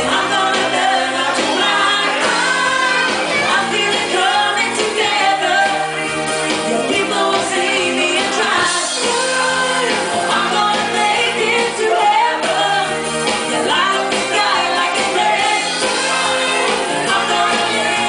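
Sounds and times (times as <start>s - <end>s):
bass: 0.0s - 18.0s
electric guitars: 0.0s - 18.0s
keyboards: 0.0s - 18.0s
lead vocals into microphones: 0.0s - 18.0s.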